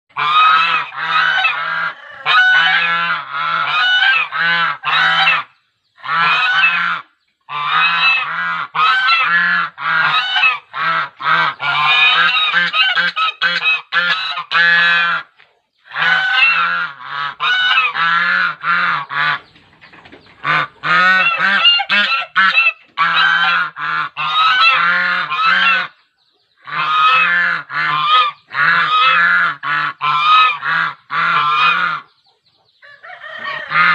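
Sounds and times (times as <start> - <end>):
swans honking: 0.1 - 19.6, 20.3 - 26.0, 26.6 - 33.9.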